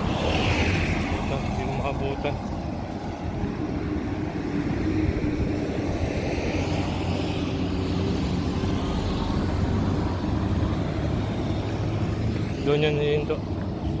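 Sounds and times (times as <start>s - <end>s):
large vehicle engine humming: 0.0s - 14.0s
passing traffic: 0.0s - 14.0s.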